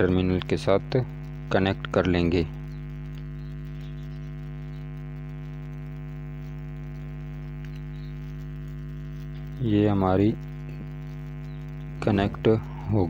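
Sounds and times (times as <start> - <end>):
electrical mains hum: 0.0 - 13.0
wires ticking against plastic: 0.0 - 13.0.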